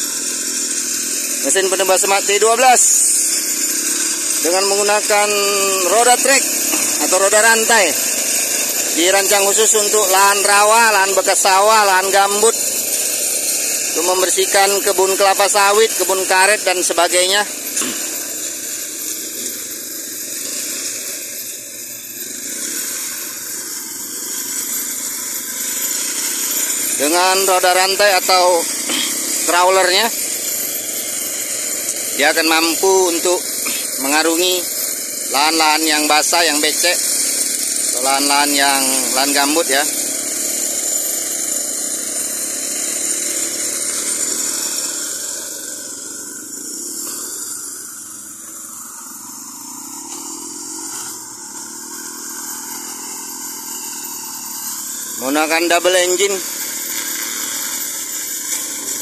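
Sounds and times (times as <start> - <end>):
brush cutter cutting ferns: 0.0 - 59.0.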